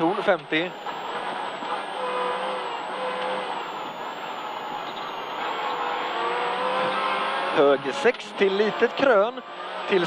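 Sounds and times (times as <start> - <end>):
car engine under load: 0.0 - 10.0
road noise: 0.0 - 10.0.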